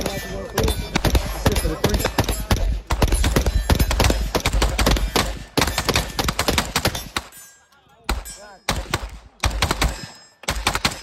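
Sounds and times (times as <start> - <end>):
rapid overlapping gunshots: 0.0 - 11.0.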